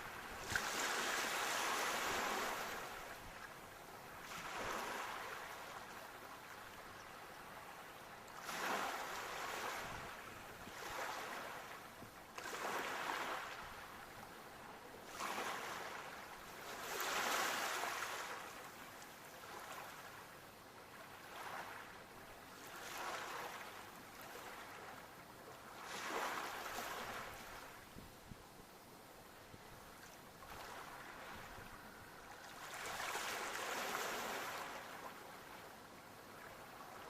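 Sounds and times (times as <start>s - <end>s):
small sea waves washing in: 0.0s - 3.5s, 4.1s - 6.5s, 8.3s - 14.1s, 15.0s - 20.3s, 20.9s - 25.0s, 25.6s - 27.9s, 29.9s - 37.0s.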